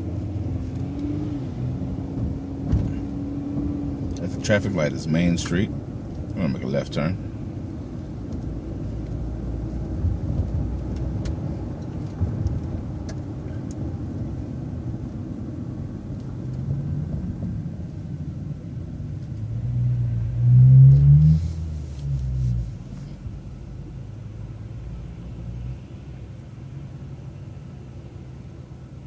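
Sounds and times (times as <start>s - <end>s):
bus engine rumbling: 0.0s - 29.0s.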